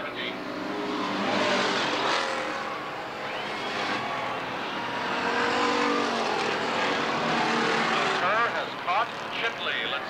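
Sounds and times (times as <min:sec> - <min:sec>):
race car engines at speed: 0:00.0 - 0:10.0.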